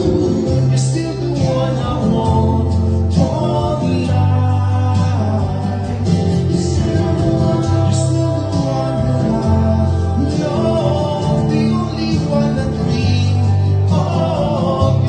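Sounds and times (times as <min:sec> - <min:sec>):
music with held bass line: 0:00.0 - 0:15.0.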